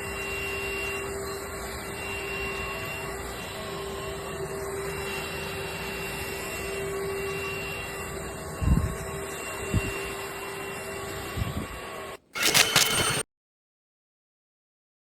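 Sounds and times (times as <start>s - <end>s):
stick vacuum motor whine: 0.0s - 13.2s.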